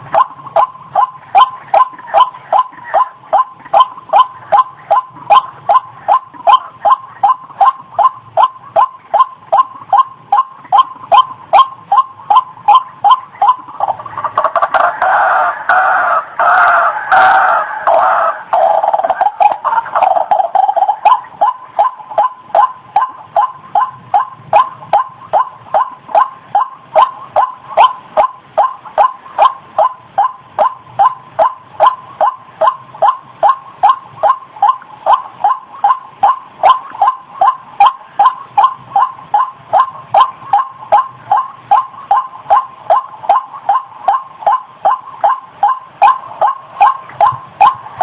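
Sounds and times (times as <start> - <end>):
bird harsh repeated call: 0.1 - 48.0.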